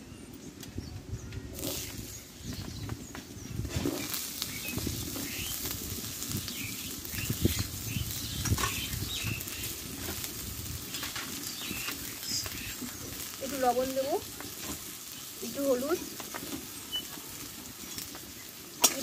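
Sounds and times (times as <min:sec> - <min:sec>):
potatoes sizzling in hot oil: 0:01.5 - 0:19.0.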